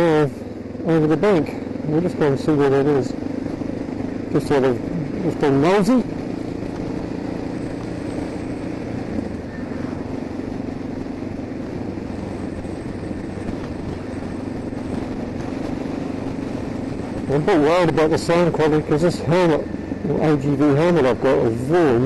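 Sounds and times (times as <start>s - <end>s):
motorcycle engine cruising: 0.0s - 22.0s
wind noise: 1.8s - 22.0s.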